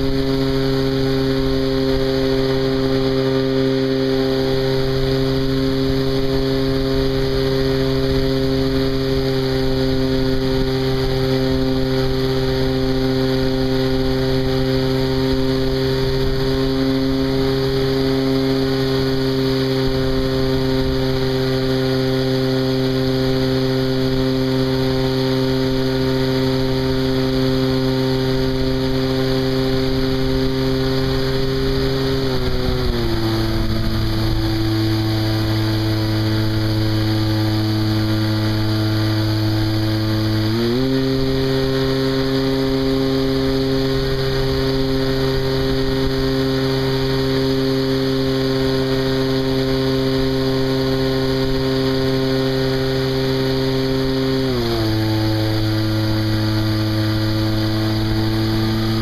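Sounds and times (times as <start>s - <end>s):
model plane engine running: 0.0s - 59.0s.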